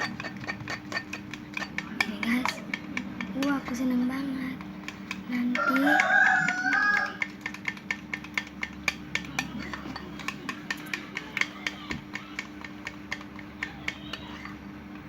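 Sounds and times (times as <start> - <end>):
stirrer clinking against container: 0.0 - 14.6.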